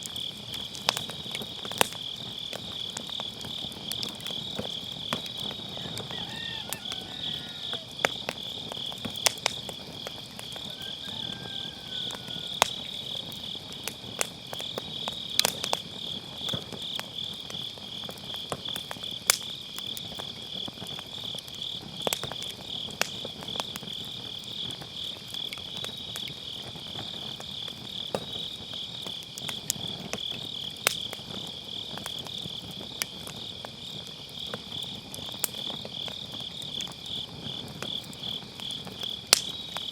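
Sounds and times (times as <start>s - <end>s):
burning logs popping: 0.0s - 39.9s
crickets chirping: 0.0s - 39.9s
fire crackling: 0.0s - 39.9s.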